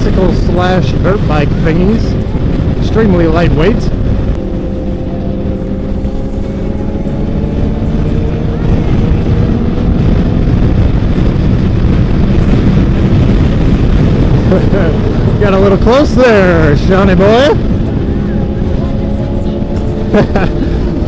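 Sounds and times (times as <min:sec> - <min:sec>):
motorcycle engine running: 0:00.0 - 0:21.0
wind rush on microphone: 0:00.0 - 0:21.0.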